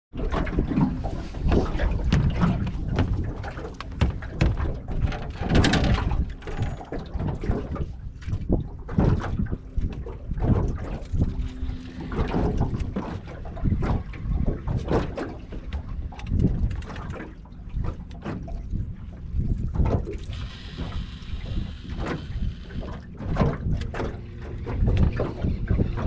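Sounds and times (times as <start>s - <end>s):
water slapping boat hull: 0.2s - 26.0s
wind buffeting microphone: 0.2s - 26.0s.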